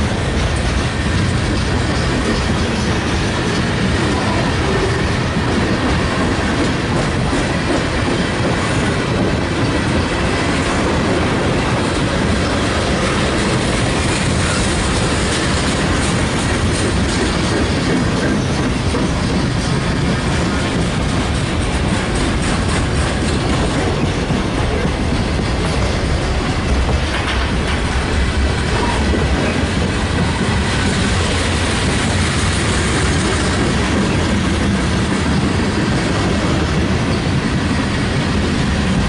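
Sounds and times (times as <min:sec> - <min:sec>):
freight train wheels on rails: 0:00.0 - 0:39.0.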